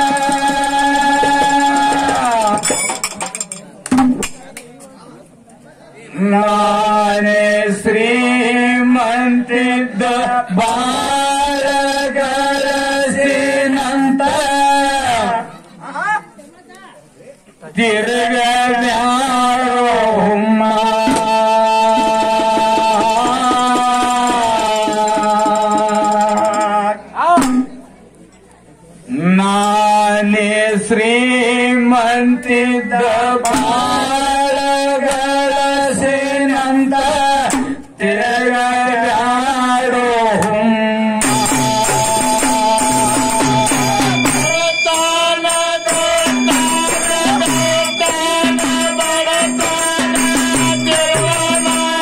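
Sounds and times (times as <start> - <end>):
man chanting a folk song: 0.0 - 2.7, 5.9 - 15.6, 17.6 - 27.7, 29.1 - 52.0.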